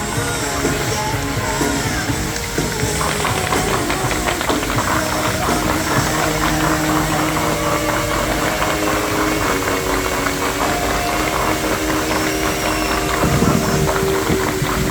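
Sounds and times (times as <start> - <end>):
fountain water rushing and splashing: 0.0 - 14.9
music with long held notes: 0.0 - 14.9.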